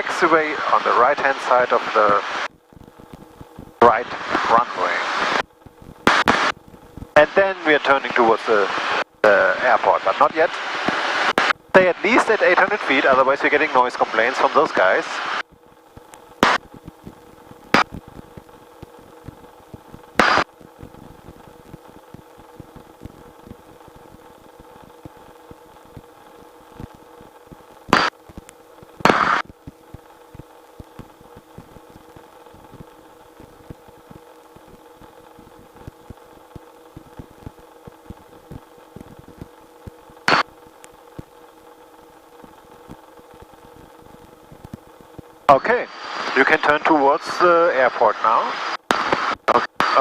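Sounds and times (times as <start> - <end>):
radio static crackles: 0.0 - 50.0.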